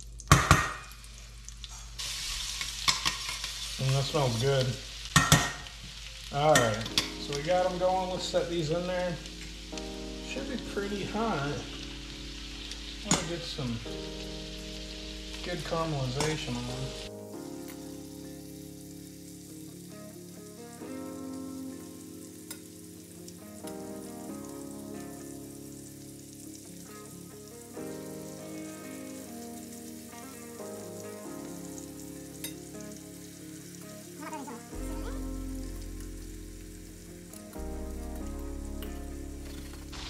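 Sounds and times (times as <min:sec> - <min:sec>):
food sizzling in a pan: 0:00.0 - 0:40.0
background music of held chords: 0:06.3 - 0:40.0.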